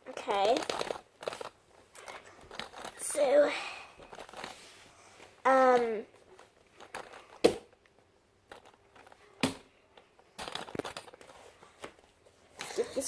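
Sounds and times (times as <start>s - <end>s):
crackling and clicking: 0.0s - 4.6s, 5.4s - 13.0s.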